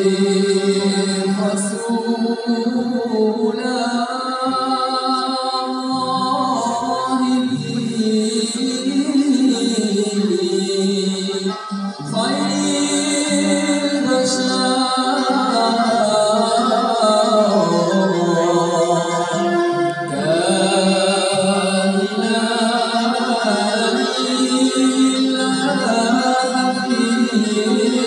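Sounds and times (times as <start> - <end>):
men singing praise songs: 0.0 - 28.0
violin accompaniment: 0.0 - 28.0.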